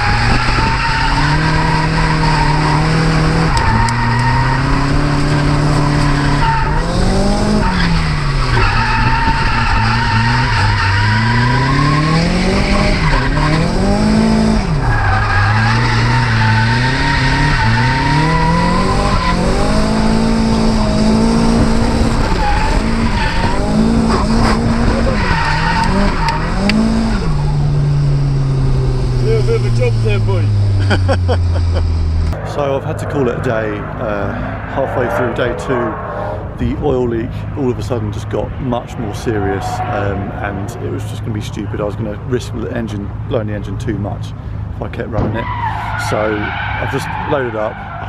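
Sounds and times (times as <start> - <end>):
tyres squealing: 0.0 - 37.7, 45.2 - 48.0
car engine revving: 0.0 - 48.0.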